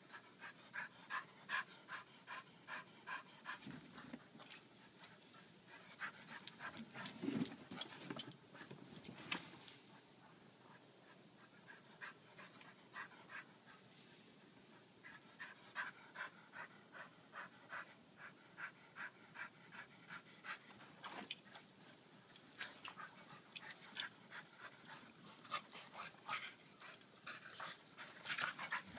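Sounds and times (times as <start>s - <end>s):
puppy panting: 0.0s - 8.7s, 9.9s - 13.8s, 14.7s - 28.9s.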